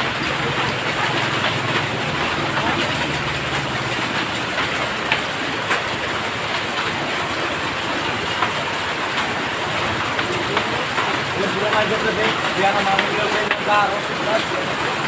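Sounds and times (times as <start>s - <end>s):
hailstones striking: 0.0s - 15.0s
heavy rain pouring: 0.0s - 15.0s.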